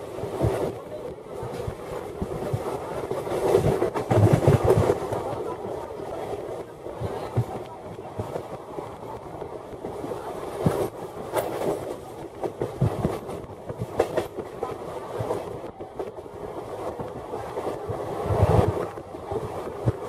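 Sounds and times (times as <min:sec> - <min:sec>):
steady train rush: 0:00.0 - 0:20.0.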